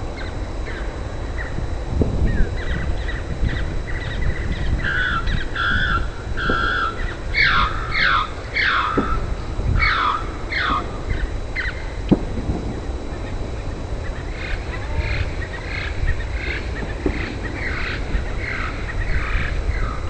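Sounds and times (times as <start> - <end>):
birds calling: 0.0 - 20.0
steady low rumble: 0.0 - 20.0.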